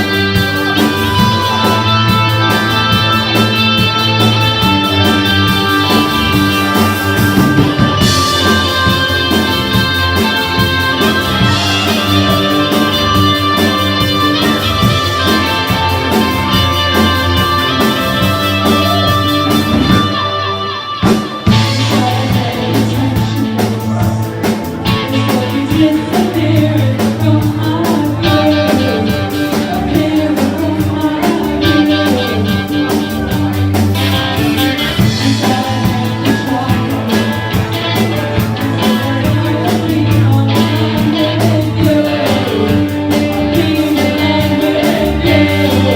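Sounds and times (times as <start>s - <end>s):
heavy bass line: 0.0s - 45.9s
live rock band with singing: 0.0s - 45.9s.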